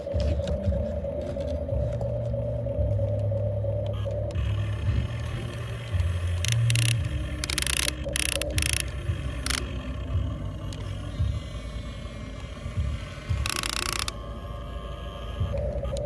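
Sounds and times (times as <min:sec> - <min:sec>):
small electric motors droning: 0:00.0 - 0:16.0.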